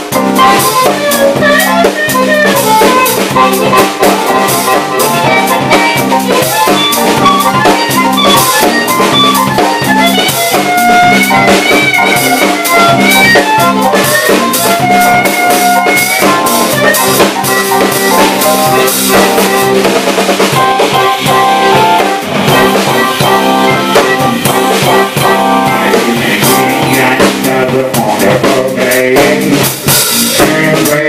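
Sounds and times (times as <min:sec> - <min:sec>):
harmonica bending notes: 0:00.0 - 0:29.2
drum kit beat: 0:00.0 - 0:31.0
electric guitar: 0:00.0 - 0:31.0.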